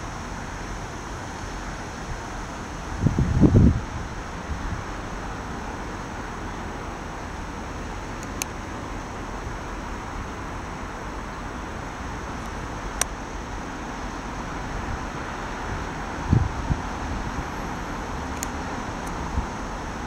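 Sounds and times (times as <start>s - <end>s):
distant traffic and trains: 0.0s - 20.0s.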